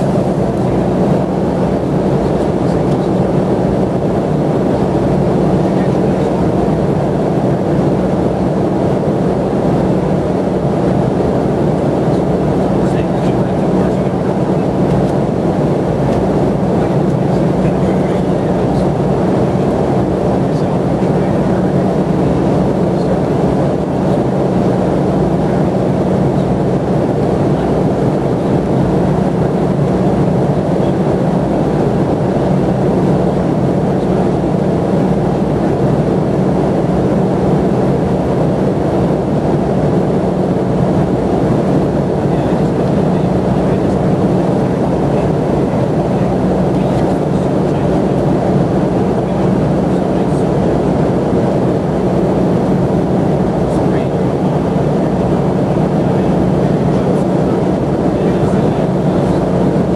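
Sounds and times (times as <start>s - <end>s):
airplane cabin drone: 0.0s - 59.9s
low hum: 0.0s - 59.9s.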